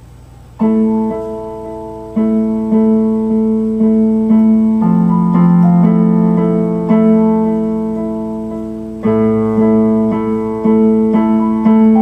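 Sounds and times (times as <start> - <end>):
electric keyboard chords: 0.0 - 12.0.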